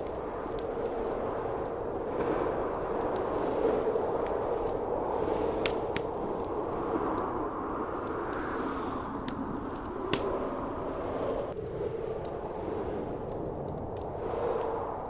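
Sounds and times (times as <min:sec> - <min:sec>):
howling blizzard wind: 0:00.0 - 0:15.0
wood fire crackling and popping: 0:00.0 - 0:15.0.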